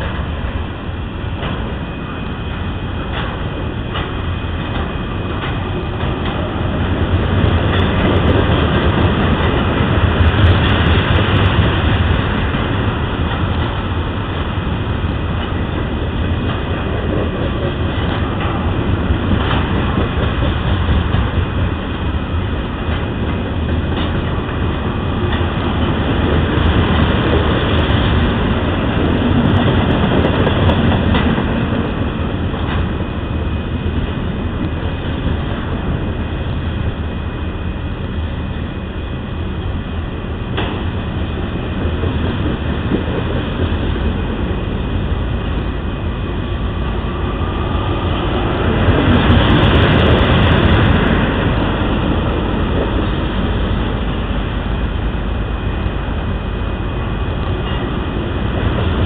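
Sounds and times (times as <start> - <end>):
wheels clacking over rail joints: 0.0 - 37.3, 38.2 - 59.0
steel wheels rumbling on rail: 0.0 - 59.0.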